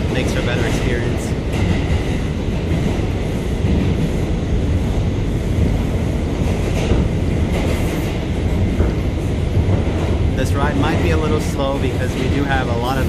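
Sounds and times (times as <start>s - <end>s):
faint clicks of wheels on rail joints: 0.0s - 13.0s
subway car rumble: 0.0s - 13.0s.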